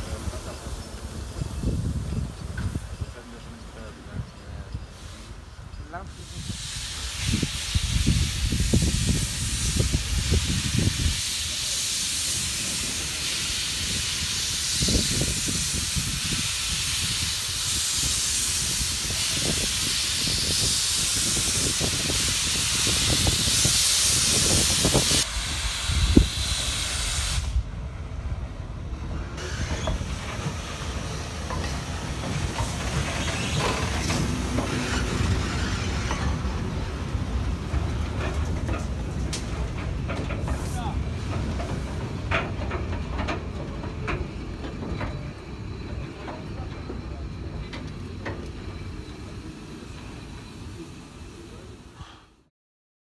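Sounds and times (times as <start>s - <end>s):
steam locomotive hissing: 0.0s - 52.5s.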